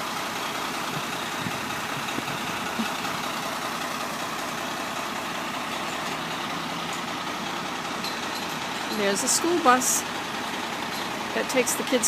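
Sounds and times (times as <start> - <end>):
engine running: 0.0 - 12.0
traffic noise: 0.0 - 12.0.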